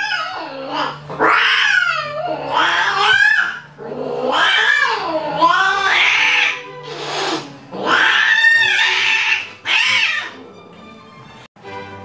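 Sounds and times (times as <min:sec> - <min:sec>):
cats yowling: 0:00.0 - 0:10.8.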